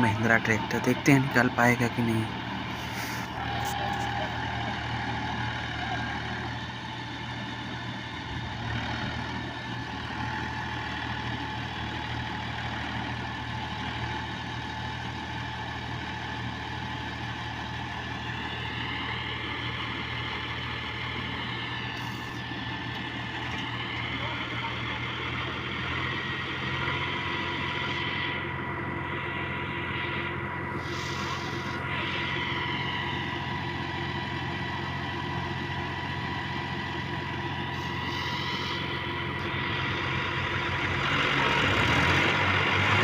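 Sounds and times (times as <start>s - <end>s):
tractor diesel engines running: 0.0s - 43.0s.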